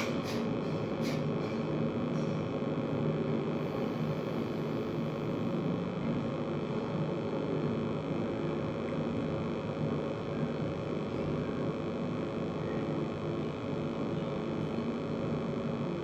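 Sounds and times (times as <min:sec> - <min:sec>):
low hum and rumble: 0:00.0 - 0:16.0.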